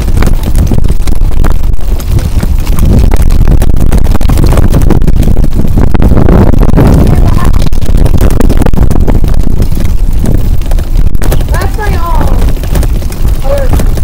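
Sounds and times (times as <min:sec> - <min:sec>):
road rumble: 0:00.0 - 0:14.0
wind buffeting: 0:00.0 - 0:14.0.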